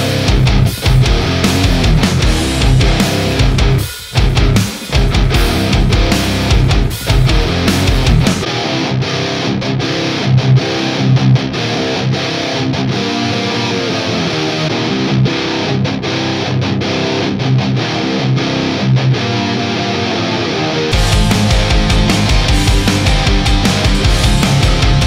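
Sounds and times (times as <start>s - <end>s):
distorted electric guitar riffing: 0.0s - 25.0s.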